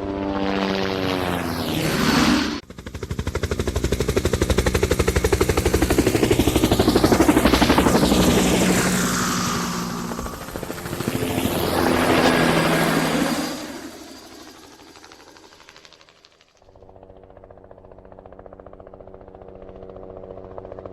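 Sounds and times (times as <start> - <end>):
helicopter rotor chop: 0.0 - 20.9.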